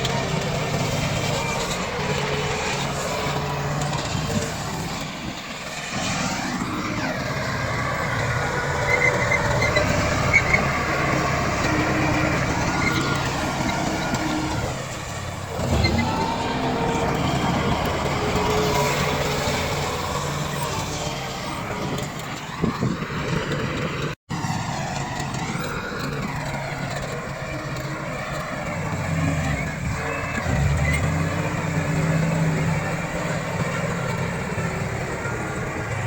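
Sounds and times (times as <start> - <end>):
bulldozer diesel engine under load: 0.0 - 36.0.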